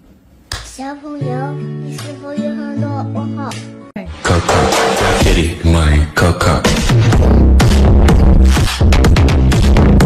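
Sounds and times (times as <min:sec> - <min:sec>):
background music with held chords: 0:01.0 - 0:10.0.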